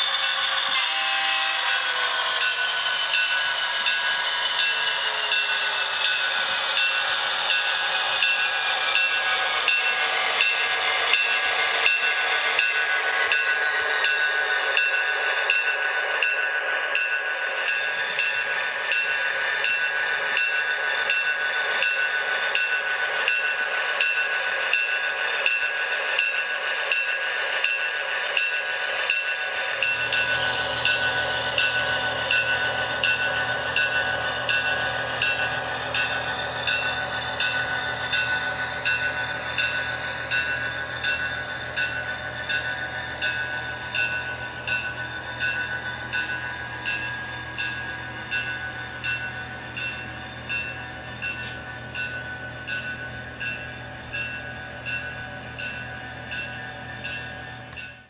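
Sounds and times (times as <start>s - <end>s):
model train running on track: 0.0s - 58.0s.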